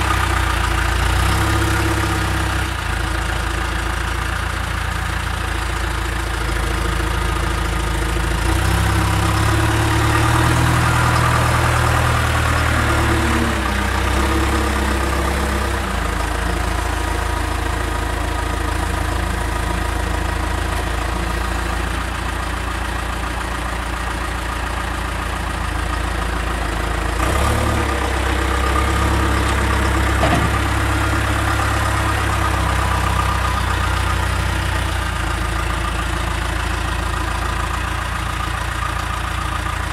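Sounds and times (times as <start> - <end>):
backhoe engine revving: 0.0 - 39.9.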